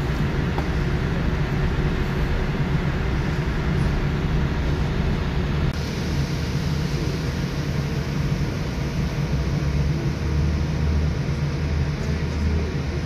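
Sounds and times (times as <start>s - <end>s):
airplane taxiing rumble and hiss: 0.0s - 13.0s.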